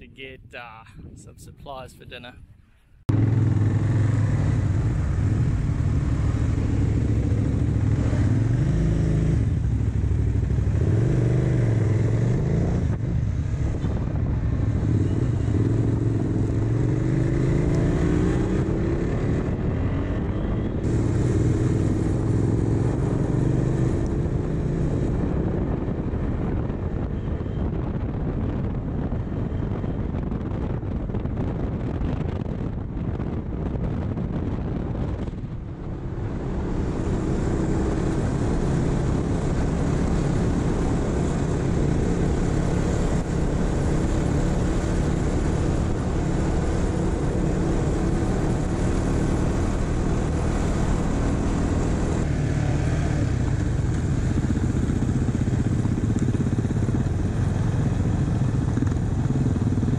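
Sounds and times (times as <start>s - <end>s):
wind rush: 0.0s - 59.9s
motorcycle engine accelerating: 3.1s - 59.9s.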